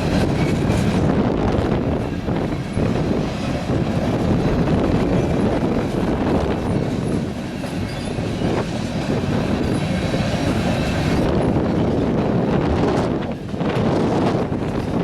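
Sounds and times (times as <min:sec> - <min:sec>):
freight train rumbling past: 0:00.0 - 0:15.0
wheels clattering on rails: 0:00.0 - 0:15.0.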